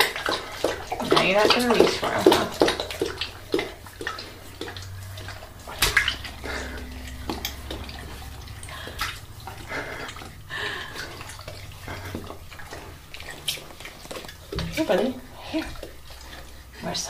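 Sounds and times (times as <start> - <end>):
bath water splashing: 0.0 - 17.0
small wet clicks: 0.0 - 17.0
low hum: 1.8 - 17.0.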